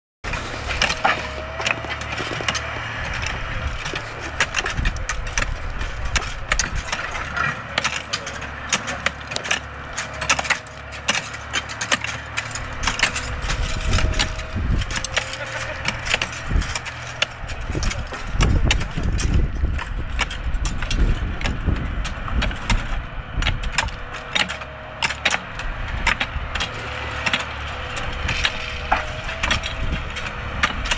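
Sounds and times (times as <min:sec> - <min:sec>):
excavator engine rumbling: 0:00.2 - 0:30.9
shovels scraping ballast stones: 0:00.3 - 0:30.9.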